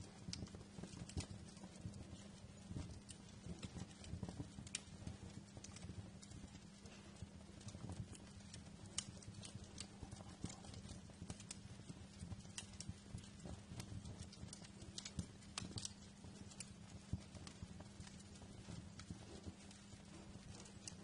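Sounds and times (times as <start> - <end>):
fire pops and snaps: 0.0 - 21.0
low rumble of burning: 0.0 - 21.0.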